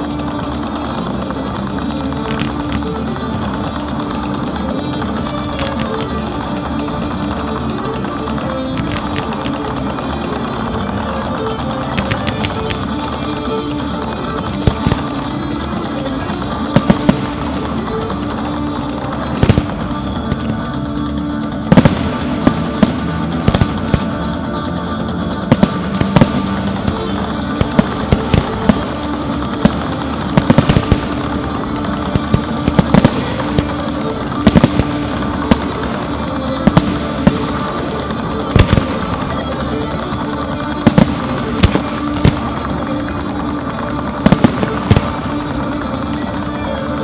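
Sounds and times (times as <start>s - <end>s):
fireworks bangs and cracks: 0.0s - 47.0s
music: 0.0s - 47.0s.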